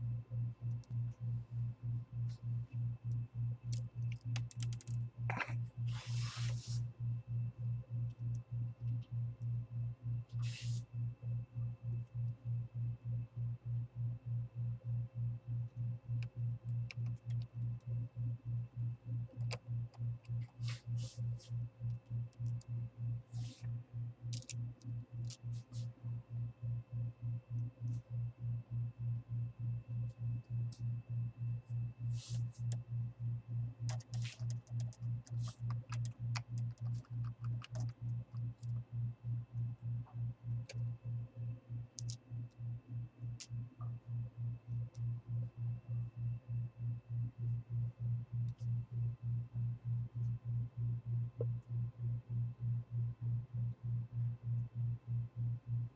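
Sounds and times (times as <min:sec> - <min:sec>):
pulsing low hum: 0:00.0 - 0:55.9.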